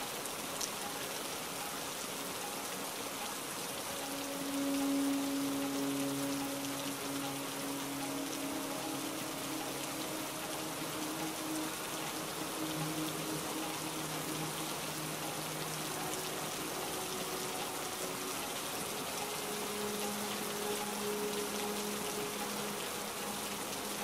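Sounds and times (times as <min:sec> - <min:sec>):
rain pattering: 0:00.0 - 0:24.0
soft held music notes: 0:00.0 - 0:24.0.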